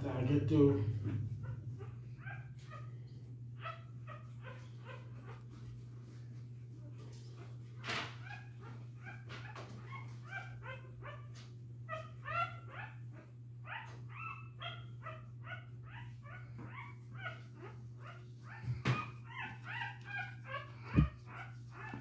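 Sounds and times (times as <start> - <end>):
steady low hum: 0.0 - 7.8, 10.2 - 22.0
puppies squeaking and whining: 0.0 - 22.0.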